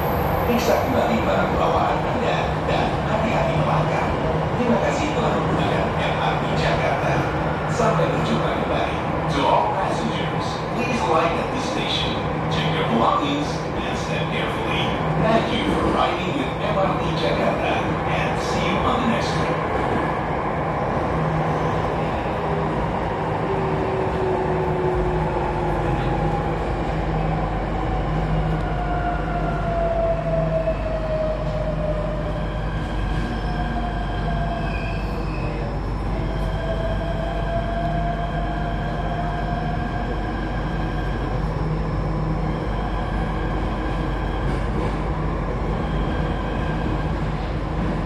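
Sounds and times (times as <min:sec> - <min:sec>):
subway train rumble: 0:00.0 - 0:48.0.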